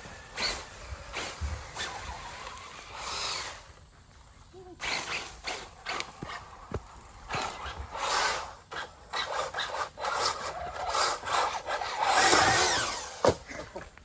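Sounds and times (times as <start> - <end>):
tyres scraping on loose dirt: 0.0 - 14.0.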